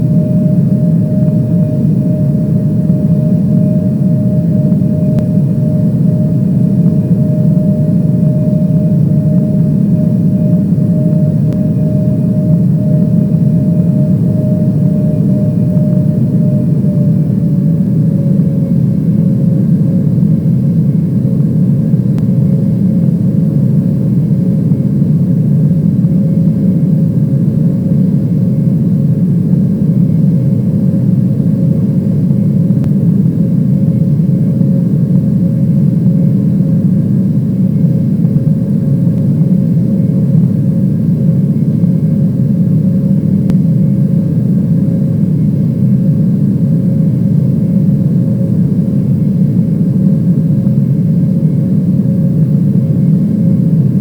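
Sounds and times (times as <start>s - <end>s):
aircraft cabin engine drone: 0.0s - 54.0s
steady whine: 0.0s - 54.0s.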